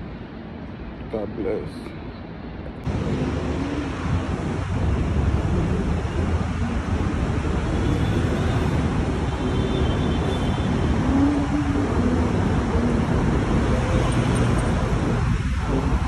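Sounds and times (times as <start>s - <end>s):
road and traffic rumble: 0.0s - 16.0s.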